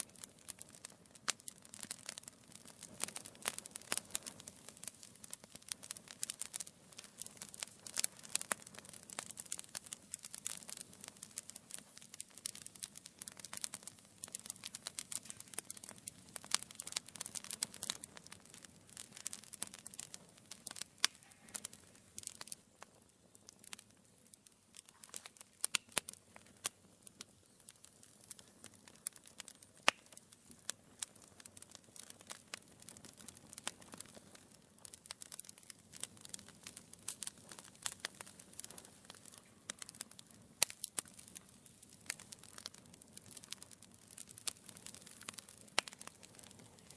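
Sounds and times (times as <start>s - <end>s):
low rumble of flames: 0.0s - 46.9s
wood fire crackling: 0.0s - 46.9s.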